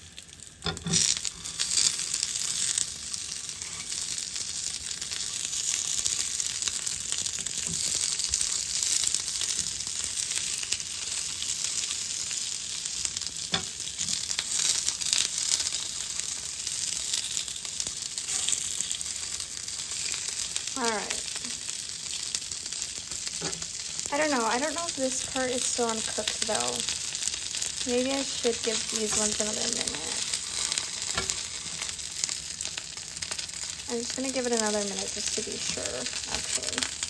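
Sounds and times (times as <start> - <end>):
pancakes sizzling in a pan: 0.0 - 37.0.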